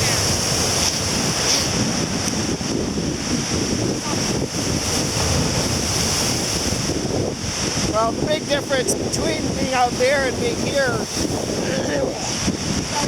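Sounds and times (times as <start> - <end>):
waves breaking on a beach: 0.0 - 13.0
wind buffeting the microphone: 0.0 - 13.0.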